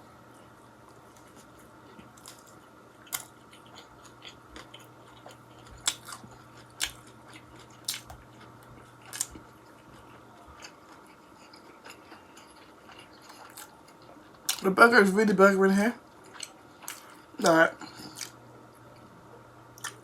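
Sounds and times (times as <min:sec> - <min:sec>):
person chewing food: 0:00.3 - 0:14.6, 0:16.0 - 0:20.0.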